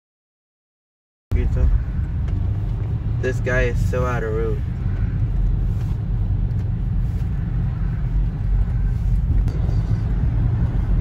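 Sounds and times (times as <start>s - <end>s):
road vehicle rumble: 1.3s - 11.0s.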